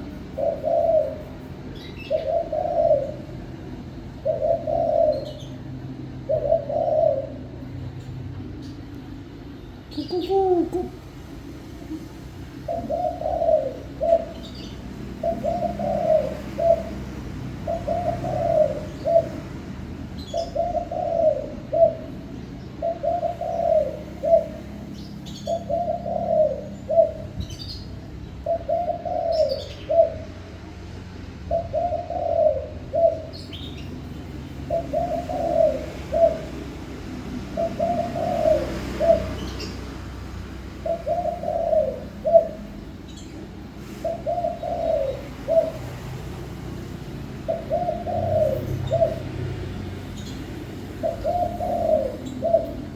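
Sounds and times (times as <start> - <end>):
dove cooing: 0.0 - 8.5, 9.9 - 52.9.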